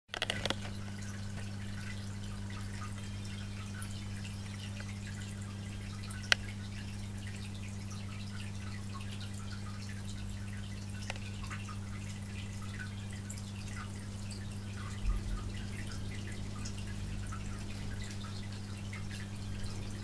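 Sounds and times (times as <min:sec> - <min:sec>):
aquarium filter humming: 0:00.1 - 0:20.0
water trickling and dripping: 0:00.1 - 0:20.0.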